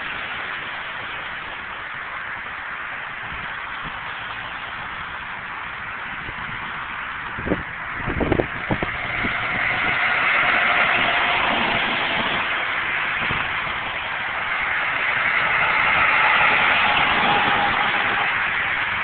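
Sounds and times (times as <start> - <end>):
highway traffic rushing: 0.0 - 19.0.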